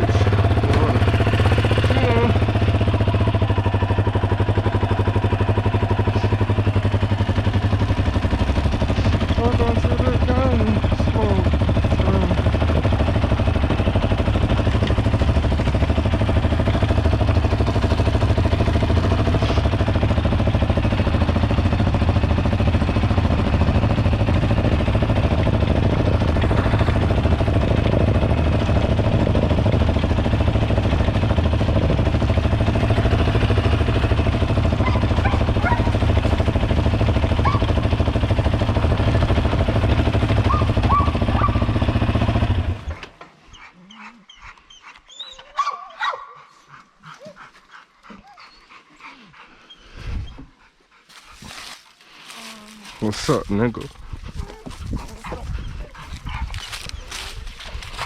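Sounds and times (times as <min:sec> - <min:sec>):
vehicle engine and road rumble: 0:00.0 - 0:46.2, 0:49.9 - 0:58.0.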